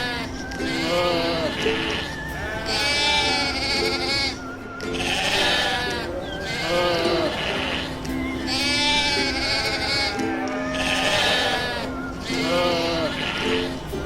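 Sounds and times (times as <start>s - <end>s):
quavering bleating: 0.0s - 13.8s.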